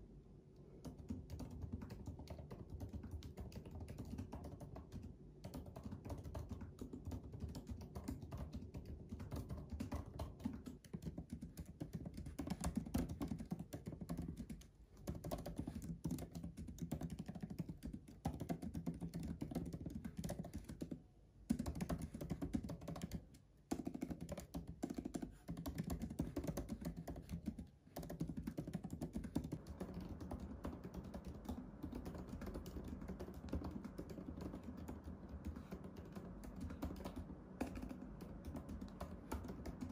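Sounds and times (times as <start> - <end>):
laptop keyboard typing: 0.8 - 39.9.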